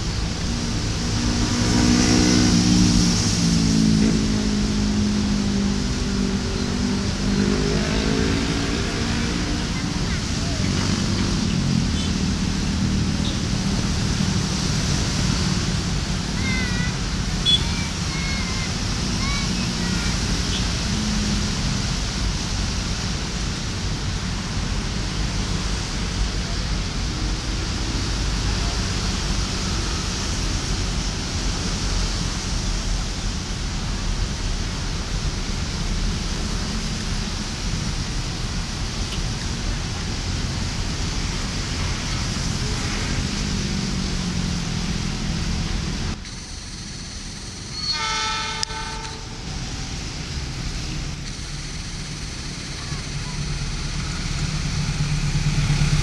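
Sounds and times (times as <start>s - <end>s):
locomotive engine rumbling: 8.4s - 56.0s.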